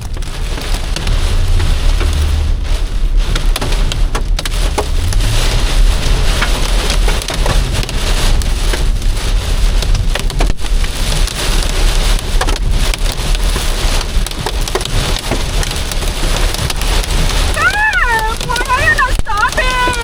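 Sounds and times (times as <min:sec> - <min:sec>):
heavy rain pelting a car: 0:00.0 - 0:20.0
low rumble: 0:00.0 - 0:20.0.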